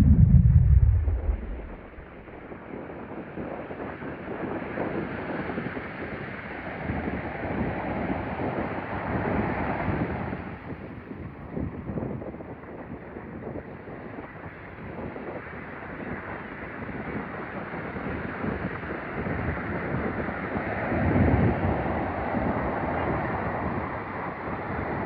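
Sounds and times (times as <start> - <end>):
wind buffeting on microphone: 0.0 - 25.0.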